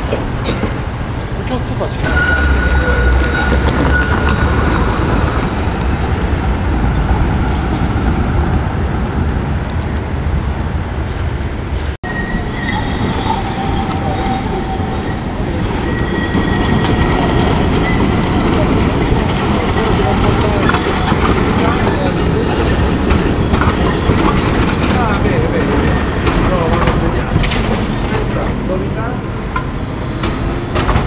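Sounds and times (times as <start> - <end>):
tram wheels squealing on rails: 0.0 - 5.9, 12.0 - 31.0
tram rumble: 0.0 - 31.0.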